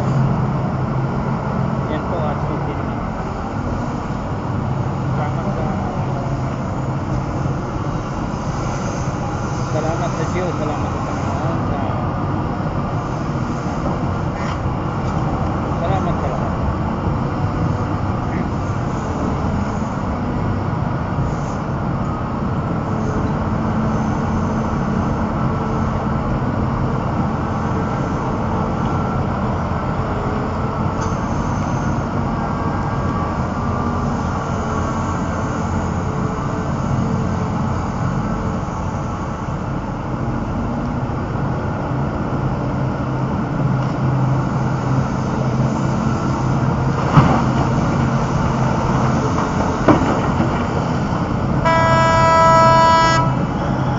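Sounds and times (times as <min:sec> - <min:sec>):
diesel excavator engines droning: 0:00.0 - 0:53.9.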